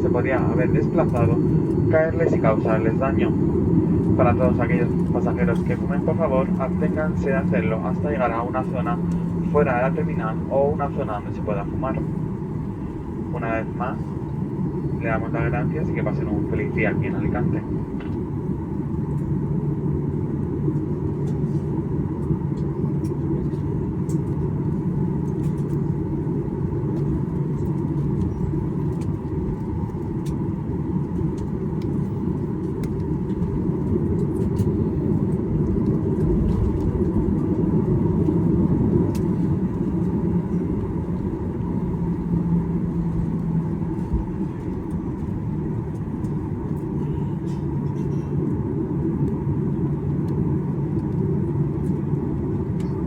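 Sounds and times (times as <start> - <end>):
aircraft engines rumbling: 0.0 - 53.0
steady hum: 0.0 - 53.0.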